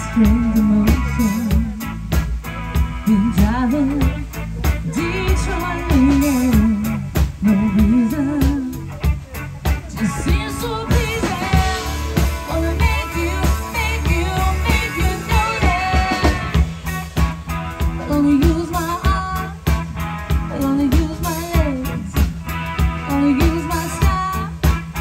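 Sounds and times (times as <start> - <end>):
live pop rock band: 0.0 - 25.0.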